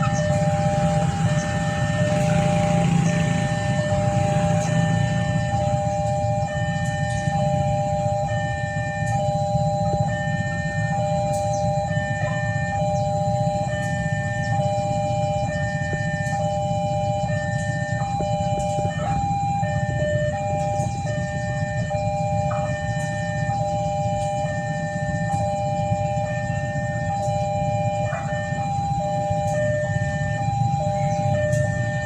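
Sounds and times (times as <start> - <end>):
level crossing warning alarm: 0.0 - 32.0.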